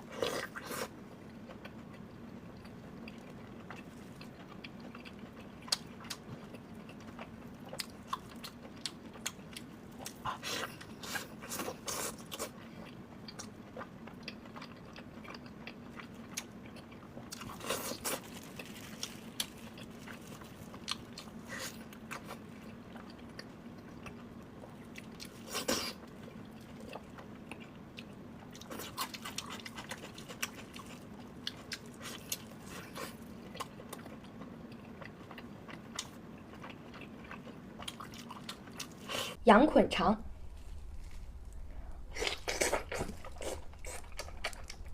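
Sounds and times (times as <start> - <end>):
steady low hum: 0.0 - 44.9
wet crunchy chewing: 2.6 - 39.4, 40.4 - 44.9.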